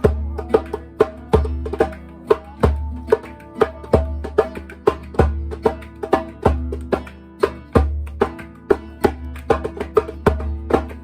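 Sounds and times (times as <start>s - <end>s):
percussion strikes: 0.0s - 11.0s.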